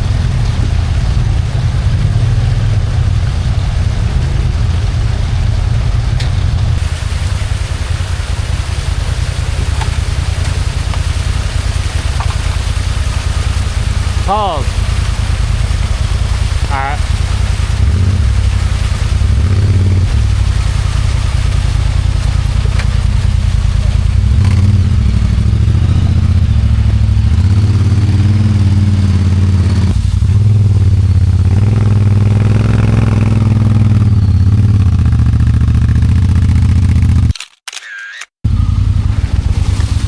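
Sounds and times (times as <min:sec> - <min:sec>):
off-road vehicle engine running: 0:00.0 - 0:37.4, 0:38.5 - 0:40.0.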